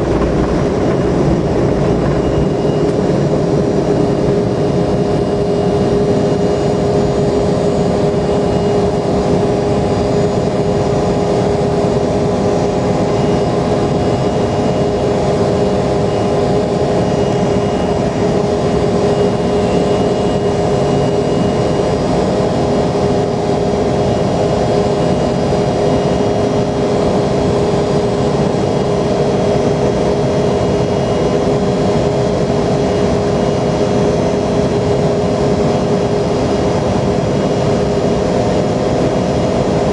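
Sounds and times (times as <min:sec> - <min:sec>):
jet engines droning: 0:00.0 - 0:39.9.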